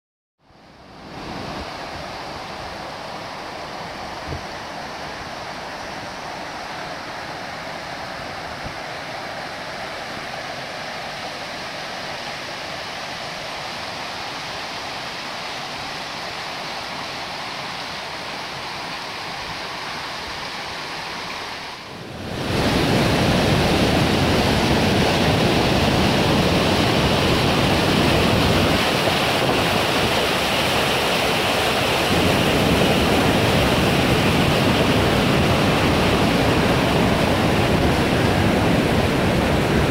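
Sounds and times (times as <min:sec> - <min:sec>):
river water rushing over rocks: 0:00.6 - 0:39.9.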